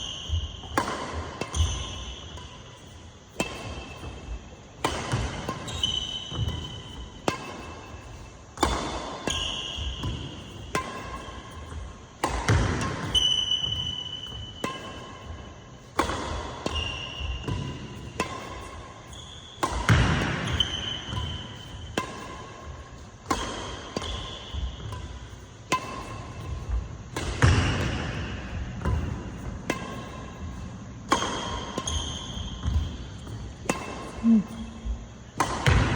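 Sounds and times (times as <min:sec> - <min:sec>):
shoes squeaking on court: 0:00.0 - 0:08.3, 0:09.2 - 0:16.0, 0:16.6 - 0:35.8
rackets striking shuttlecock: 0:00.0 - 0:35.9.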